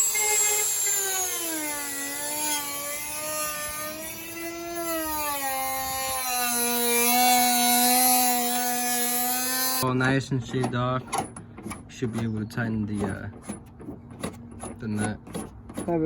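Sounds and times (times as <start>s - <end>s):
rotary tool grinding fiberglass: 0.0s - 16.0s.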